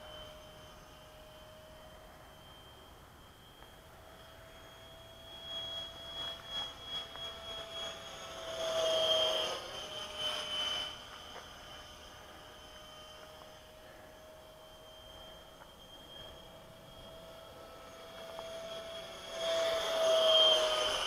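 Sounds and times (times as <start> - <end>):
electric ducted fan jet whine: 0.0 - 21.0.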